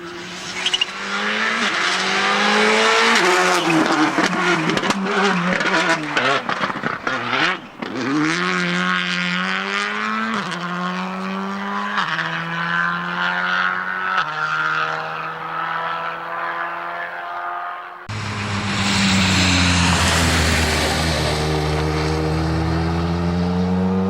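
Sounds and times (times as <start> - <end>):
rally car accelerating: 0.0 - 24.0.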